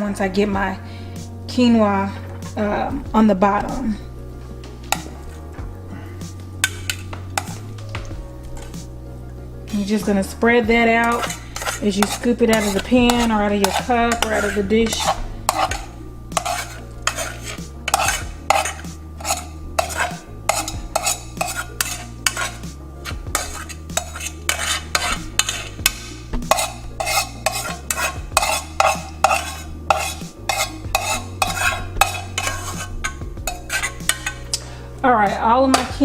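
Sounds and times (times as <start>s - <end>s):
spoon scraping a pan: 0.4s - 36.0s.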